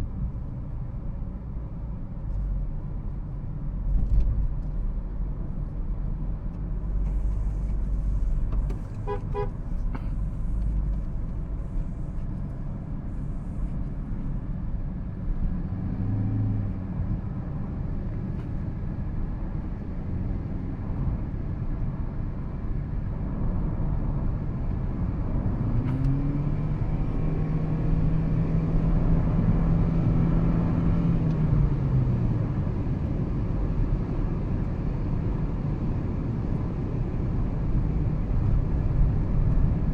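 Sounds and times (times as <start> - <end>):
low drawn-out hum: 0.0 - 39.9
road and tyre rumble: 0.0 - 39.9.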